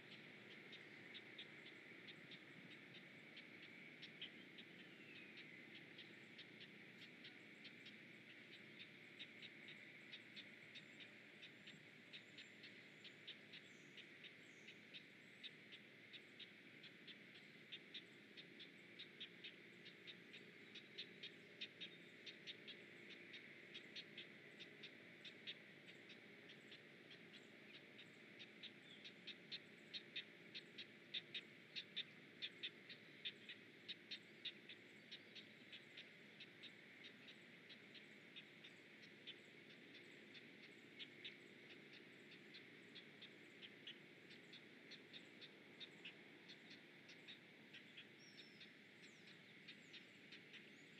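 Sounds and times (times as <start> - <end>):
heron nestlings begging ticks: 0.1 - 50.9.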